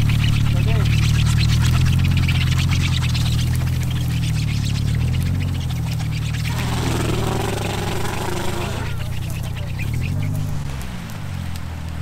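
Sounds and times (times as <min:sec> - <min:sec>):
car engine running: 0:00.0 - 0:12.0
grass crackling and being crushed: 0:00.0 - 0:12.0.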